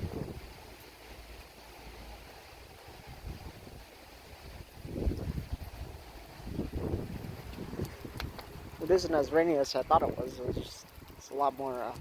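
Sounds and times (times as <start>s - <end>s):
wind gusting across microphone: 0.0s - 12.0s.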